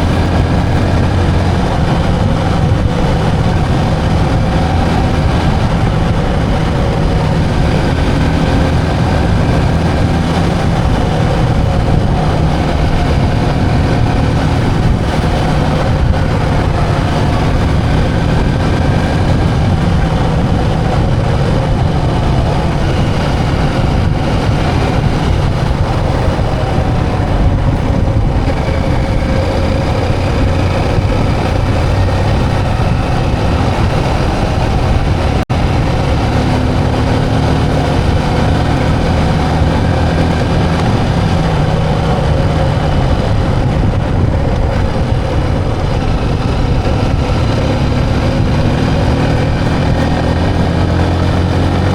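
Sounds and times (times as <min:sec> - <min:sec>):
motorbike engine running: 0:00.0 - 0:51.9
wind and road noise: 0:00.0 - 0:51.9.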